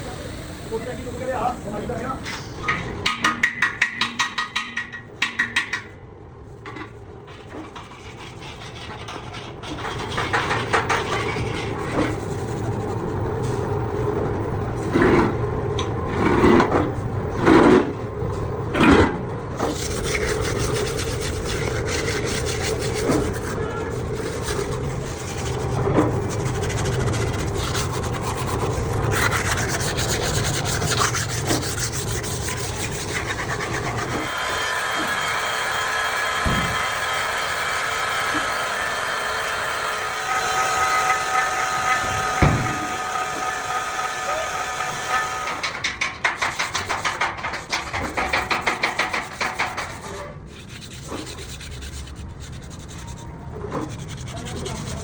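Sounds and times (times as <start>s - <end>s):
metal rasping and rubbing: 6.6s - 15.4s, 18.8s - 55.0s.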